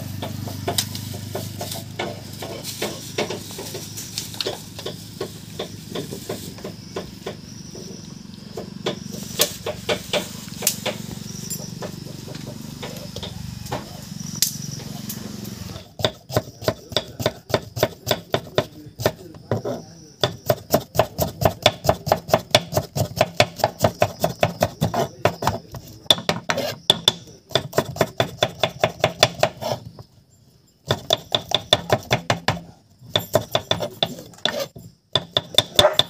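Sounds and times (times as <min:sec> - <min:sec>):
knife chopping on wooden board: 0:00.2 - 0:07.9, 0:08.6 - 0:11.1, 0:15.8 - 0:29.8, 0:30.9 - 0:36.0.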